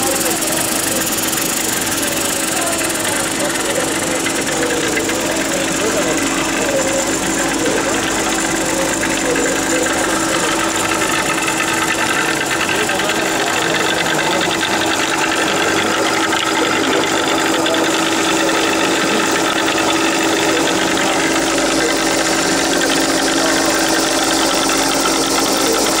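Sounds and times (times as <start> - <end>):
fast fine ticking: 0.0 - 26.0
printing machine mechanical hum: 0.0 - 26.0.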